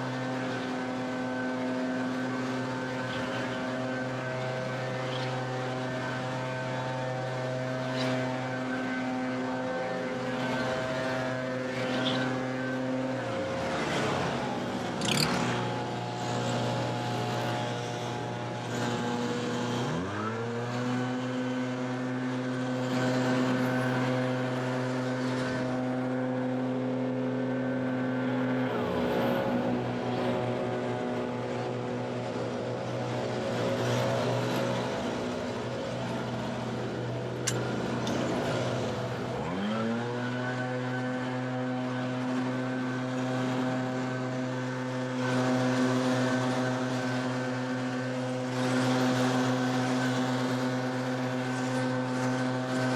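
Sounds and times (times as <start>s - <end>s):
leaf blower engine revving: 0.0s - 52.9s.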